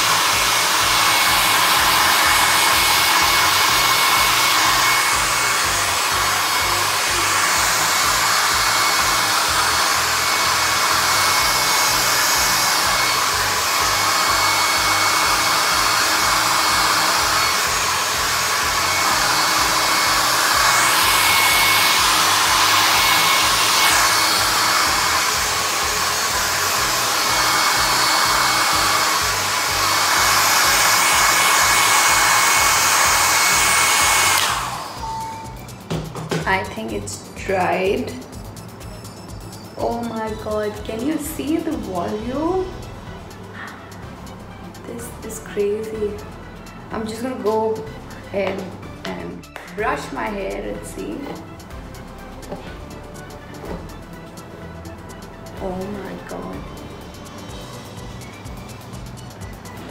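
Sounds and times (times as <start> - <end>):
blow dryer running: 0.0 - 59.9.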